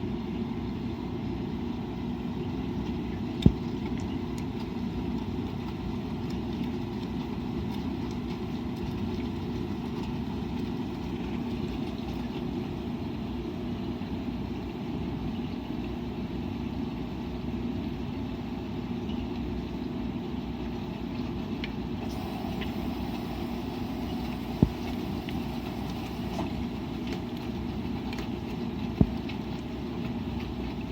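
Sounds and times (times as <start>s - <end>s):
washing machine humming: 0.0s - 30.9s.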